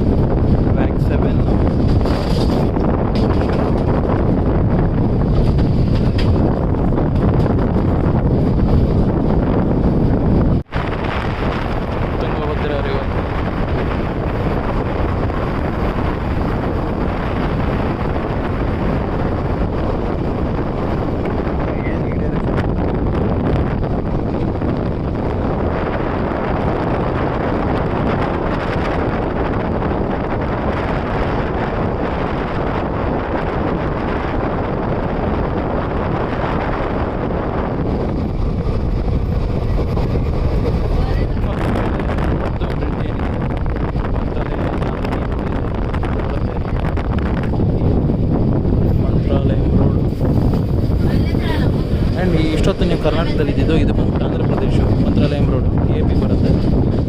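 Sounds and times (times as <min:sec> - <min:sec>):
moving passenger train: 0:00.0 - 0:57.0
wind on microphone: 0:00.0 - 0:57.0.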